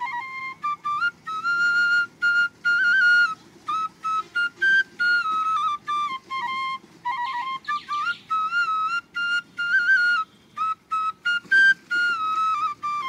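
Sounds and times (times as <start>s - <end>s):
solo flute melody: 0.0s - 13.0s.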